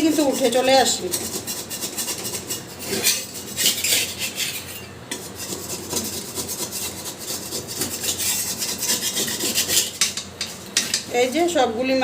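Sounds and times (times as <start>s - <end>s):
spatula scraping a pan: 0.0s - 11.5s.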